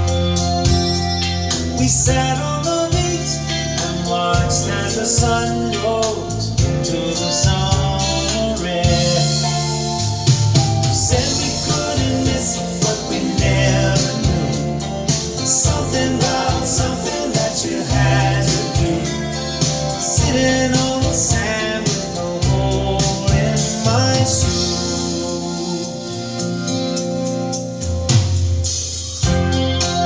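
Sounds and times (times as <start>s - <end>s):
pop song with singing: 0.0s - 27.6s.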